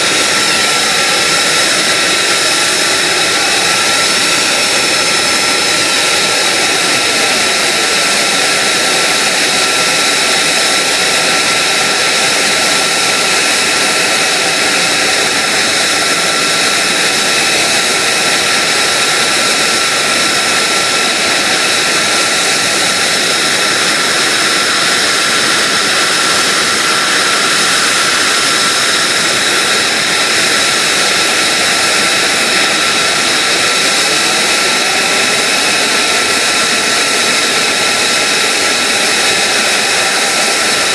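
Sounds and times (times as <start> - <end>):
jet engine running with high whine: 0.0 - 40.9.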